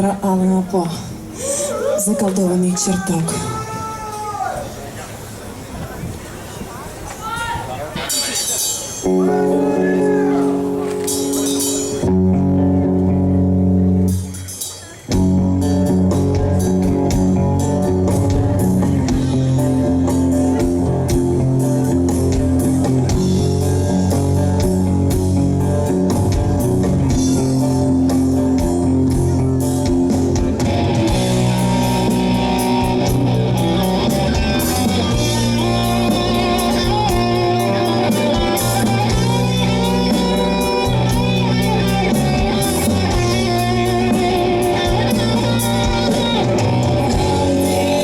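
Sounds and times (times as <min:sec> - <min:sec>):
lead guitar with bent notes: 0:08.0 - 0:48.0
live rock band playing: 0:08.0 - 0:48.0.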